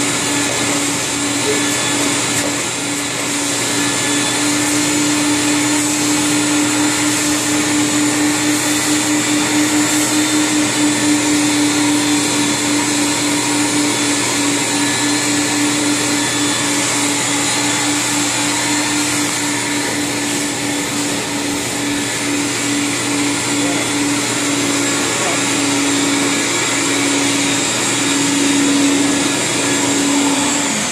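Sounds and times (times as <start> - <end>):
carpet cleaner vacuum humming: 0.0 - 30.9.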